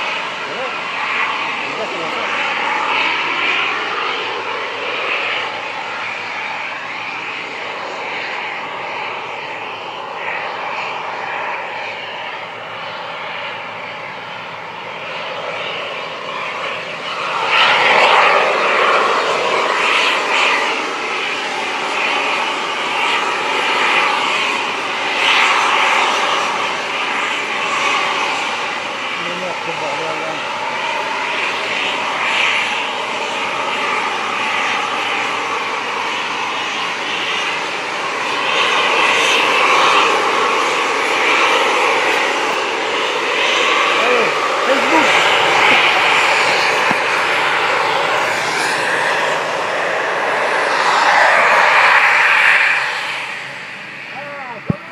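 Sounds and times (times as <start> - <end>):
aircraft engine rushing: 0.0 - 54.9.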